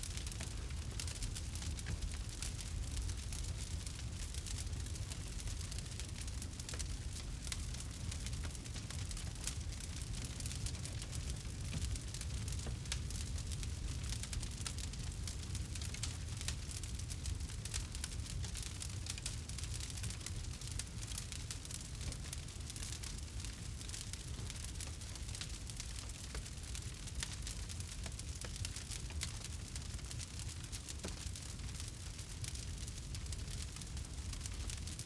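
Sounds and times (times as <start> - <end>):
campfire wood crackling and popping: 0.0 - 35.0.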